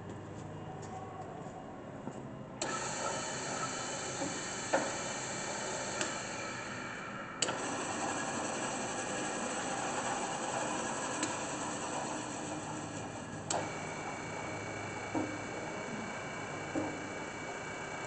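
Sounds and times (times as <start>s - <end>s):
drill press motors humming: 2.6s - 18.0s.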